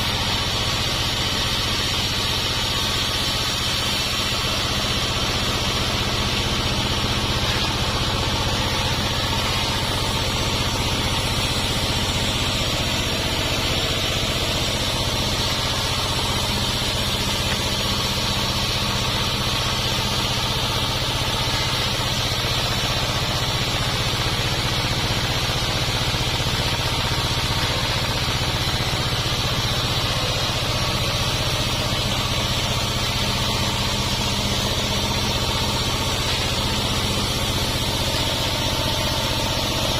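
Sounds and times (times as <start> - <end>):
hiss: 0.0 - 39.9
sawmill machinery hum: 0.0 - 39.9.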